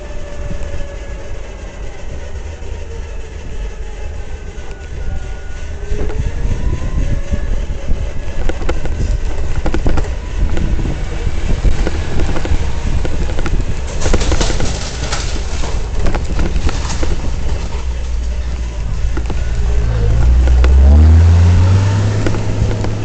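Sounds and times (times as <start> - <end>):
wind rumbling on microphone: 0.0 - 23.0
rapid clicking and rattling: 0.4 - 20.8.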